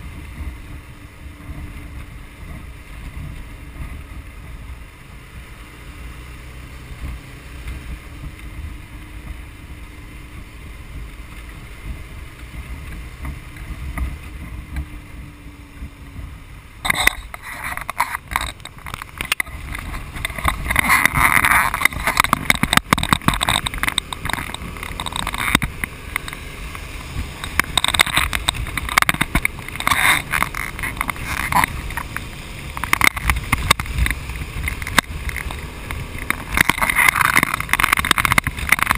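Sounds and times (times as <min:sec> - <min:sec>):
motorcycle engine and road rumble: 0:00.0 - 0:38.9
wind buffeting microphone: 0:00.0 - 0:38.9.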